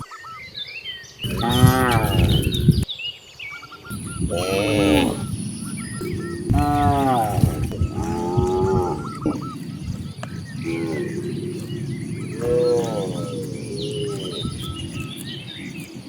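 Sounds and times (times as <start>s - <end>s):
cows mooing: 1.2s - 2.8s, 3.9s - 16.0s.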